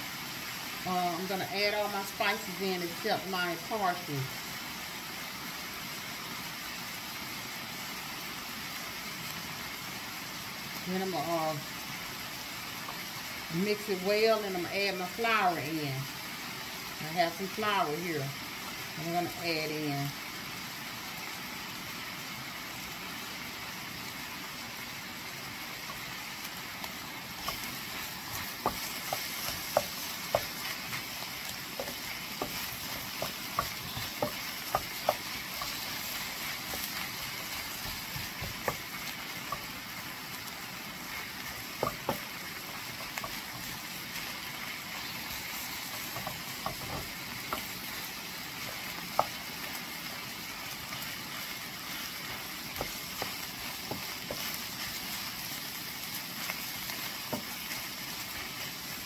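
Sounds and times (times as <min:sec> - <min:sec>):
sausage sizzling in a skillet: 0:00.0 - 0:59.0.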